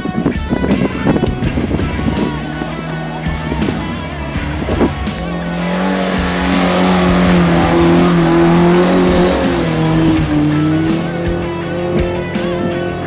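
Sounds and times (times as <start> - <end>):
engine running at high revs: 0.0 - 13.0.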